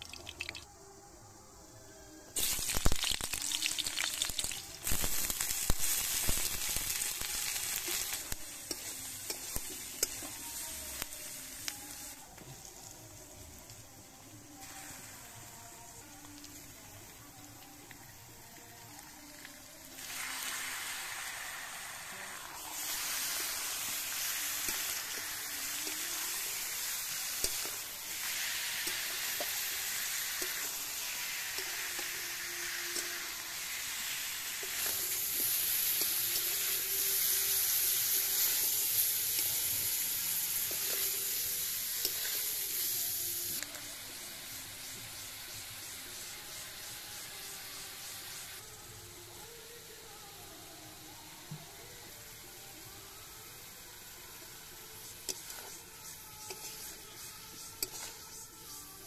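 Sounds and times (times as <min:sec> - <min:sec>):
food sizzling in hot oil: 0:00.0 - 0:00.8, 0:02.3 - 0:59.0.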